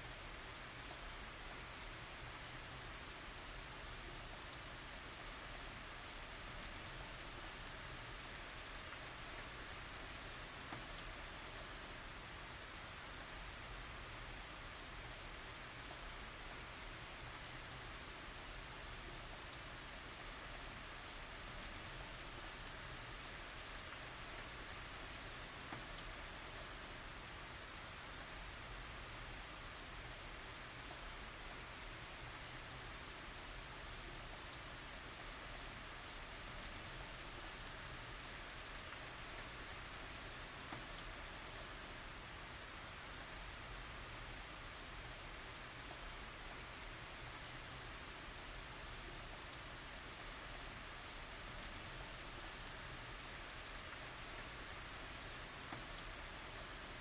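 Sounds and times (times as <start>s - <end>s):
steady rain hiss: 0.0s - 57.0s
raindrop ticks: 0.2s - 12.3s, 13.0s - 27.3s, 28.0s - 42.2s, 42.9s - 57.0s.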